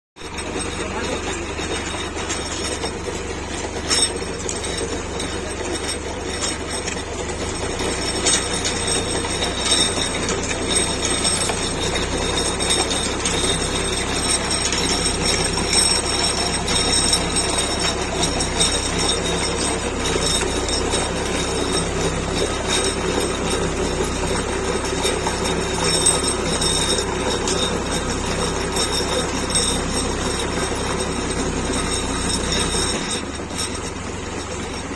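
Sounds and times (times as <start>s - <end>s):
diesel tractor engine running: 0.2s - 34.9s
high-pitched metallic squeal: 0.2s - 34.9s
sharp metal clanks: 0.2s - 34.9s.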